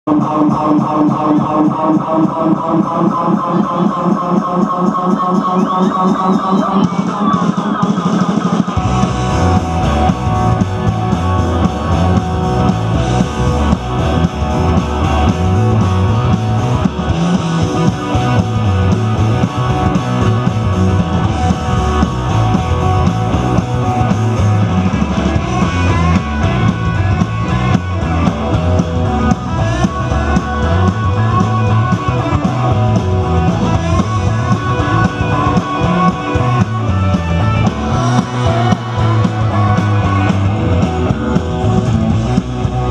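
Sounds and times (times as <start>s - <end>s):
bass guitar: 0.0s - 42.9s
drum kit beat: 0.1s - 42.9s
electric guitars: 0.1s - 42.9s.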